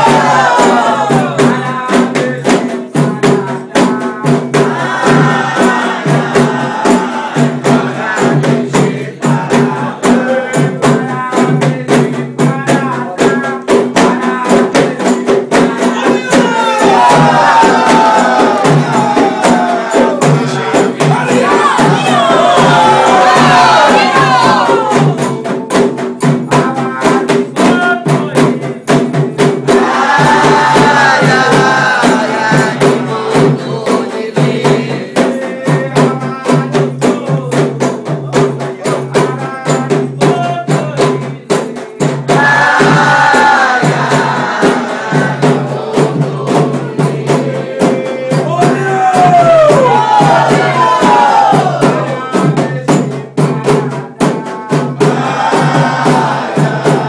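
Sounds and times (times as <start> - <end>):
fast hand drum percussion: 0.0 - 57.0
rattle percussion: 0.0 - 57.0
voices singing a chant: 0.0 - 57.0.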